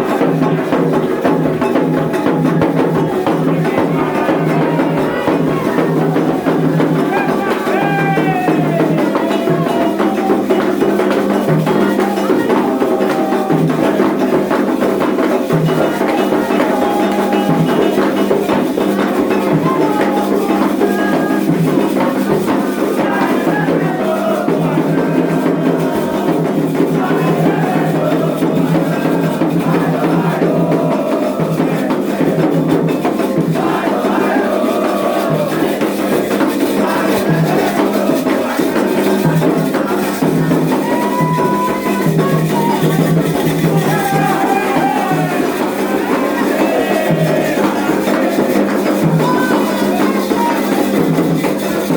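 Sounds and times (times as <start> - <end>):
shakers: 0.0 - 51.9
singing voices: 0.0 - 51.9.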